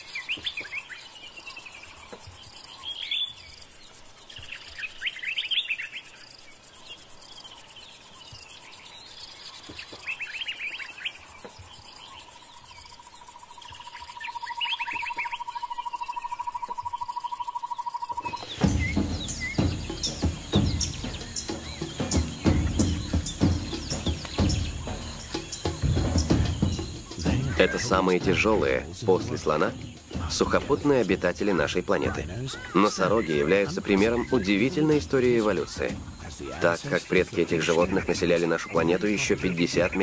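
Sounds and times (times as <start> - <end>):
birds calling: 0.0 - 40.0
insects chirring: 0.0 - 40.0.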